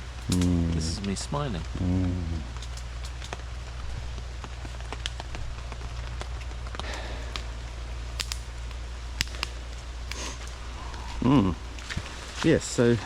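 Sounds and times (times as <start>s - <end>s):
rain drops ticking: 0.0s - 13.0s
steady low rumble: 0.0s - 13.0s.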